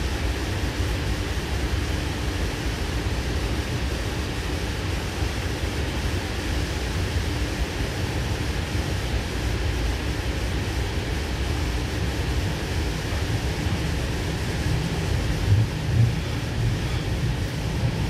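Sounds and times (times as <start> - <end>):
electric train rumble and hiss: 0.0 - 18.0
faint steady hum: 0.0 - 18.0.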